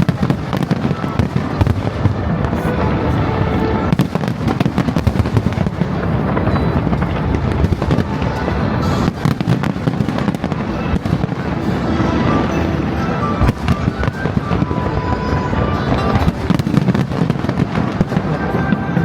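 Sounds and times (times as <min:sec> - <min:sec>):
fireworks booming and crackling: 0:00.0 - 0:19.0.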